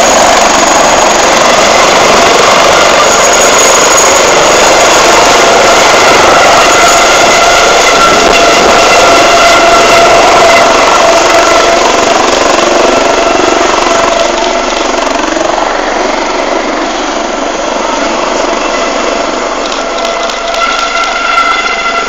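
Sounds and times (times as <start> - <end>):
helicopter turbine whine and rotors: 0.0 - 22.0.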